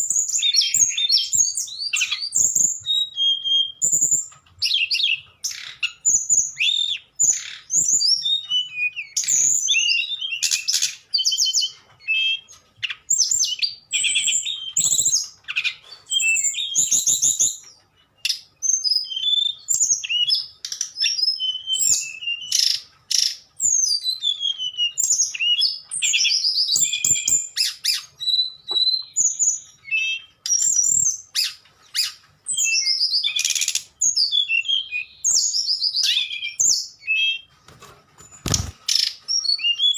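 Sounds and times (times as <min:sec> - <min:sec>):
songbird singing: 0:00.0 - 0:37.5, 0:38.3 - 0:39.9.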